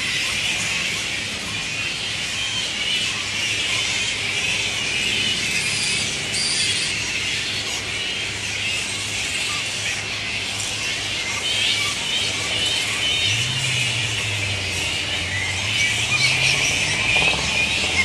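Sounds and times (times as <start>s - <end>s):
bats chattering and squealing: 0.0s - 18.0s.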